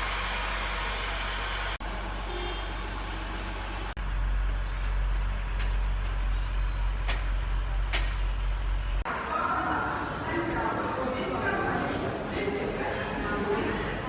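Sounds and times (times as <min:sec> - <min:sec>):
electric locomotive deep hum: 0:00.0 - 0:14.0.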